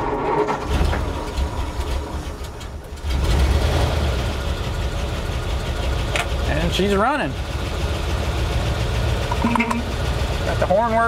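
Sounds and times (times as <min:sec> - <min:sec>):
truck engine idling: 0:00.6 - 0:11.0.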